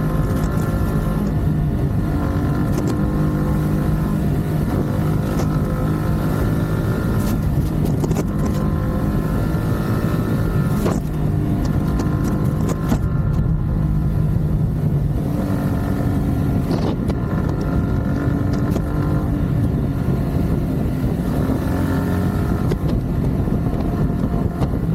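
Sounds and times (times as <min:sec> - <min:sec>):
motorcycle engine and exhaust: 0:00.0 - 0:24.9.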